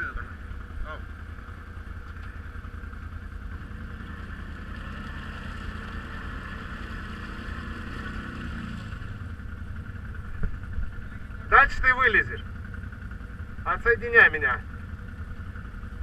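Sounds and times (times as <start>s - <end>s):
quad engine drone: 0.0s - 16.0s.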